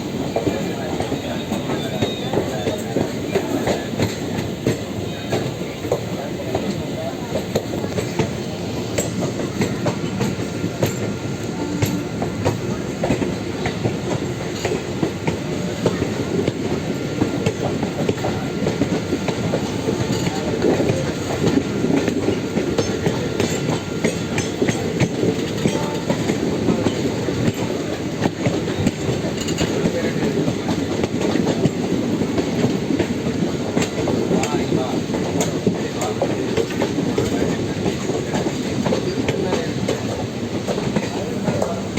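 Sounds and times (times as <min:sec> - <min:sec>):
train rumbling on track: 0:00.0 - 0:41.9
wheels clicking over rail joints: 0:00.3 - 0:41.9.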